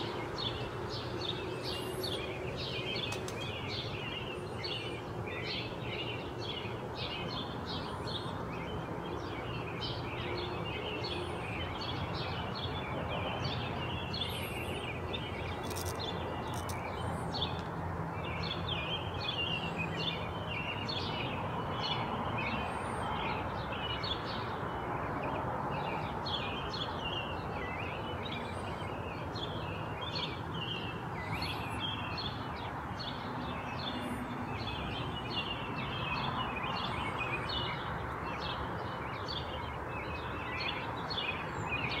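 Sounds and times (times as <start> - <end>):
small birds chirping and singing: 0.0 - 42.0.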